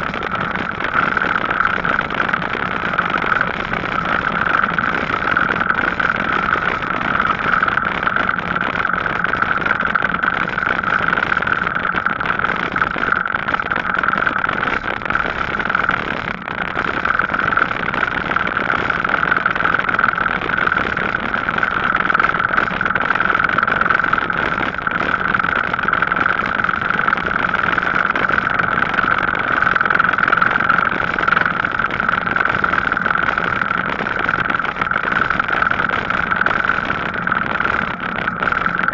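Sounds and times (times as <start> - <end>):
bicycle tyre and wind noise: 0.0 - 38.9
constant high hum: 0.0 - 38.9.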